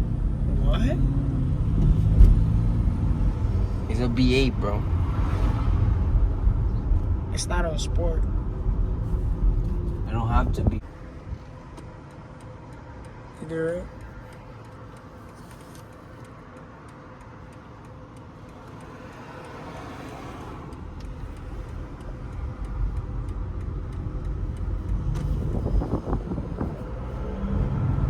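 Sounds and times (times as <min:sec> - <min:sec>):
car engine rumble from cabin: 0:00.0 - 0:28.0.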